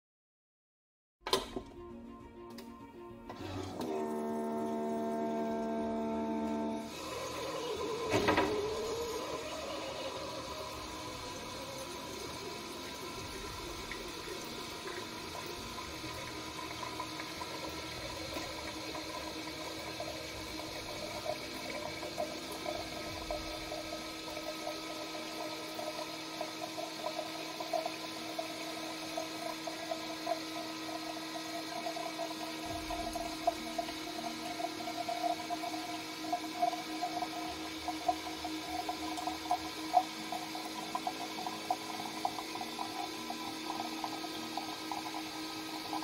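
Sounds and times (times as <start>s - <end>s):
coffee maker pump humming: 1.3s - 46.0s
coffee pouring into glass jar: 6.7s - 46.0s.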